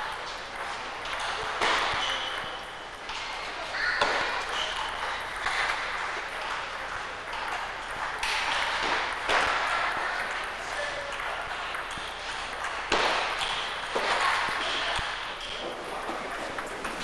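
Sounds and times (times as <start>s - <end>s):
large hall ambience: 0.0s - 17.0s.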